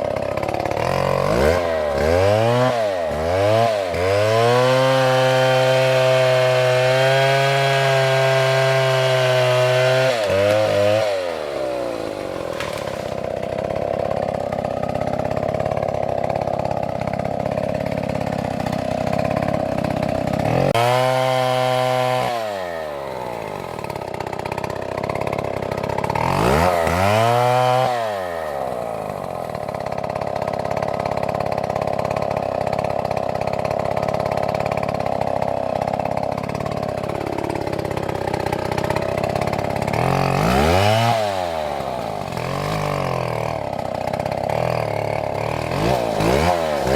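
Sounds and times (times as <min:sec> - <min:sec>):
chainsaw engine revving: 0:00.0 - 0:46.9.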